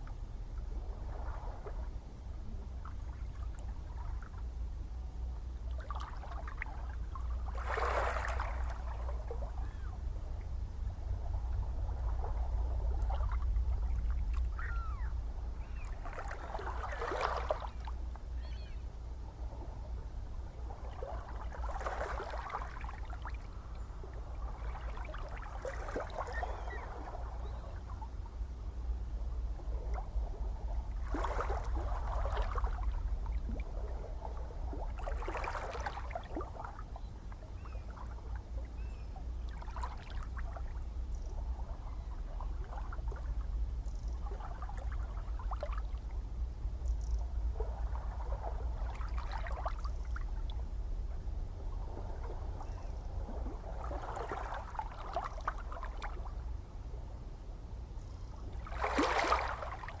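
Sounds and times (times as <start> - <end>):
waves lapping and splashing: 0.0 - 4.5, 5.6 - 18.0, 19.3 - 28.5, 29.2 - 56.6, 58.5 - 60.0
low rumble of sea: 0.0 - 60.0.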